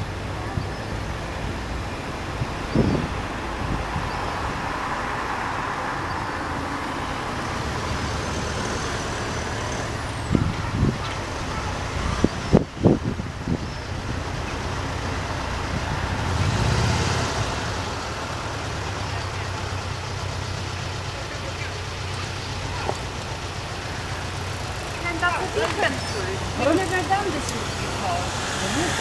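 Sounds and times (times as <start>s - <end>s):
passing vehicles rushing: 0.0s - 29.0s.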